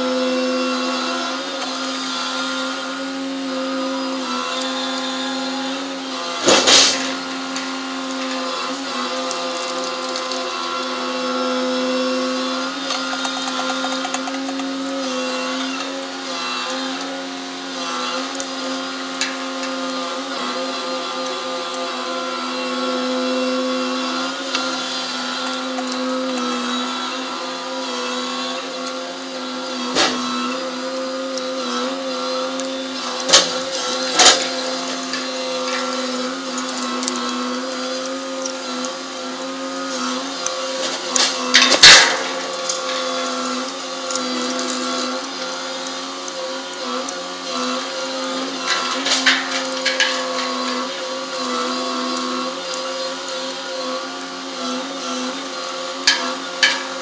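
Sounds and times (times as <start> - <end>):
crane machinery whining drone: 0.0 - 57.0.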